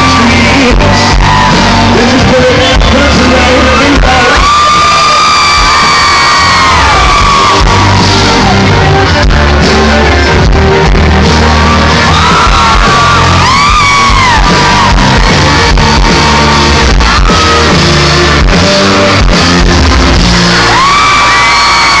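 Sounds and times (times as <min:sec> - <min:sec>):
crowd shouting and whooping: 0:00.0 - 0:22.0
live country band playing: 0:00.0 - 0:22.0.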